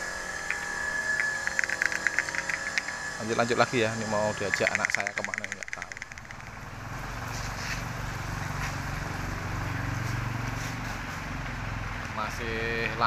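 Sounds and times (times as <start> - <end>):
vehicle engine running: 0.0 - 12.1.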